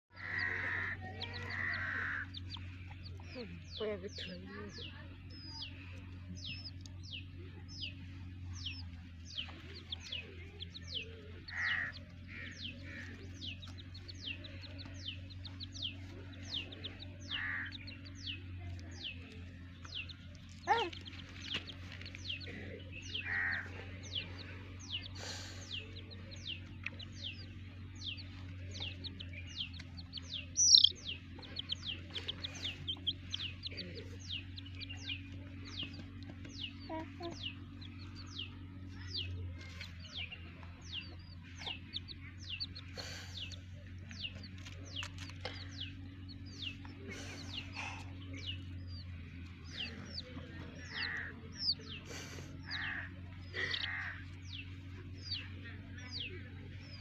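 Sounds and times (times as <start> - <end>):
chicks peeping: 0.1 - 57.0.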